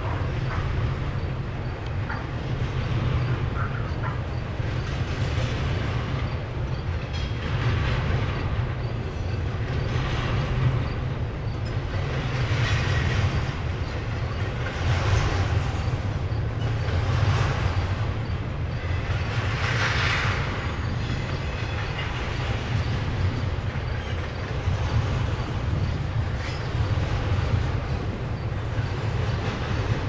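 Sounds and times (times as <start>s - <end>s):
freight train wheels rumbling on rails: 0.0s - 30.0s.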